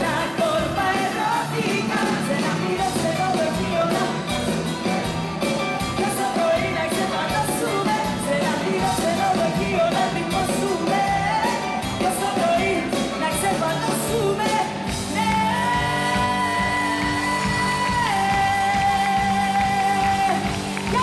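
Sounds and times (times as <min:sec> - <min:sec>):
woman singing: 0:00.0 - 0:04.6, 0:05.8 - 0:21.0
pop band playing: 0:00.0 - 0:21.0.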